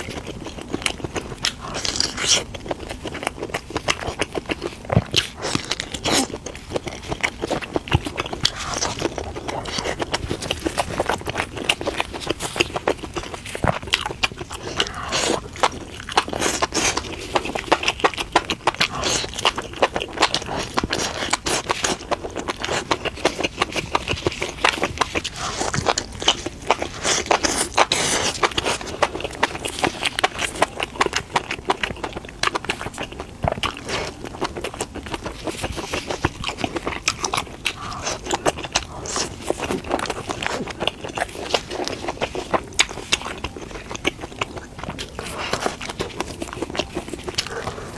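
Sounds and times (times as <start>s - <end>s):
person chewing and crunching: 0.0s - 47.9s.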